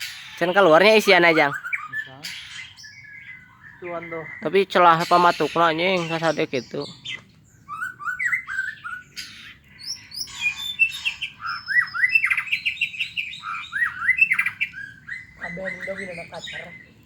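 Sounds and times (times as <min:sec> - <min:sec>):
bird chattering: 0:00.0 - 0:17.0
bird singing whistled notes: 0:00.0 - 0:17.0.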